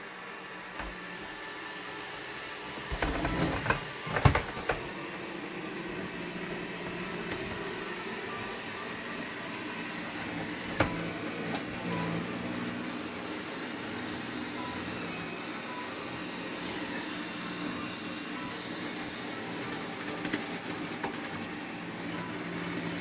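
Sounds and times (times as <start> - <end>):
robot vacuum whirring: 0.6 - 23.0.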